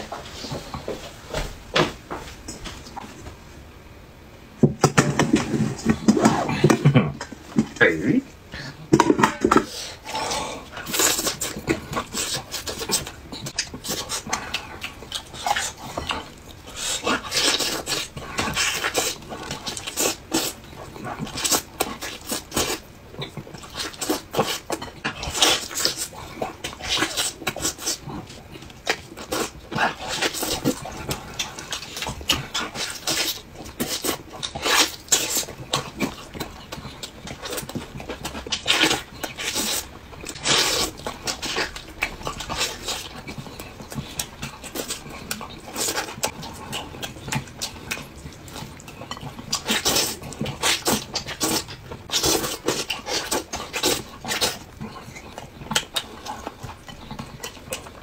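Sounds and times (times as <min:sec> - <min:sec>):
man chewing and lip-smacking: 0:10.1 - 0:58.0.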